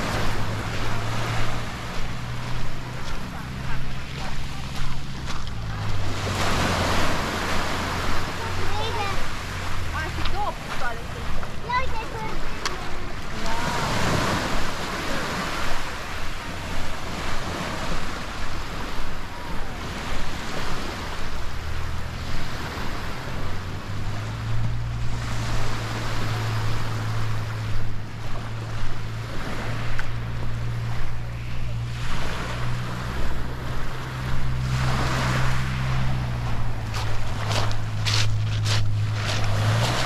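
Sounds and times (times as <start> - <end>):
sea waves washing onto beach: 0.0 - 40.0
steady low drone: 0.0 - 40.0.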